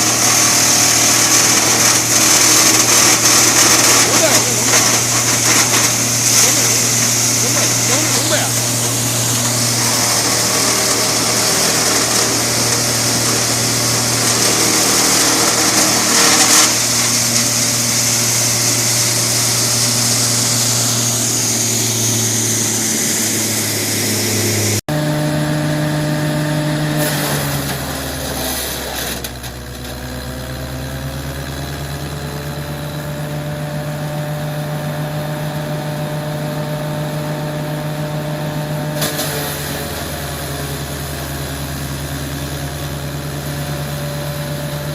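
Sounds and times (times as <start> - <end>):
wood crusher motor hum: 0.0 - 44.9.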